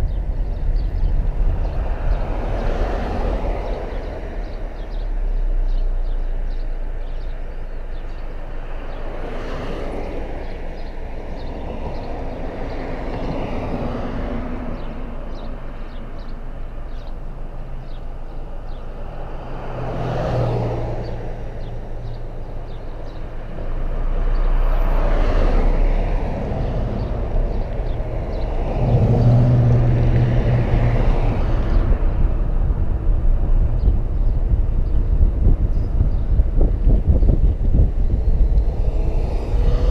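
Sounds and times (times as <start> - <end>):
road noise: 0.0 - 39.9
vehicles passing by: 0.0 - 39.9.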